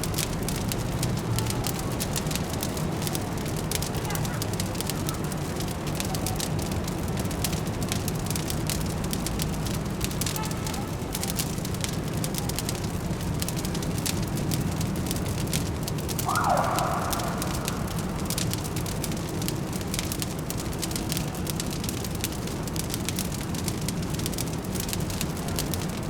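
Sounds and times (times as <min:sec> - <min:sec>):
fireplace crackling and popping: 0:00.0 - 0:26.0
low city hum: 0:00.0 - 0:26.0.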